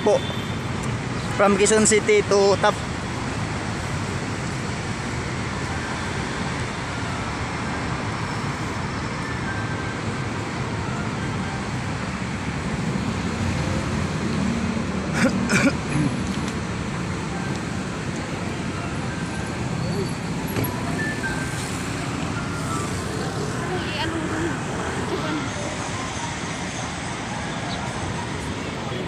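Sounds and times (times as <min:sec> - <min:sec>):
city traffic passing: 0:00.0 - 0:29.0.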